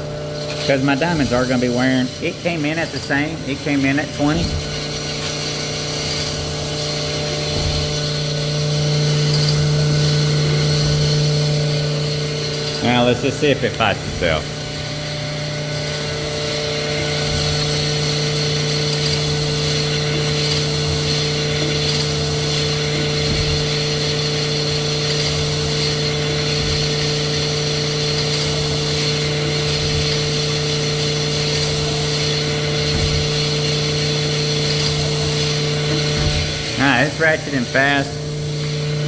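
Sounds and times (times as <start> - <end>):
honing machine grinding: 0.0 - 39.0.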